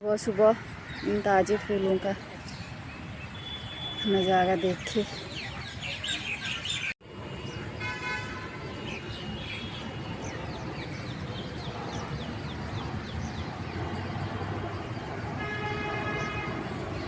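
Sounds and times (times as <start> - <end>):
birds chirping: 0.2 - 7.6, 8.6 - 17.0.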